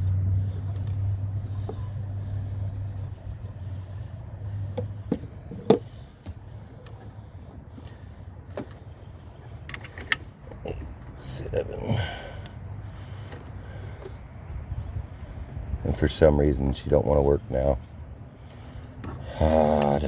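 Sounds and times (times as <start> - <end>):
vehicle low hum: 0.0 - 20.0.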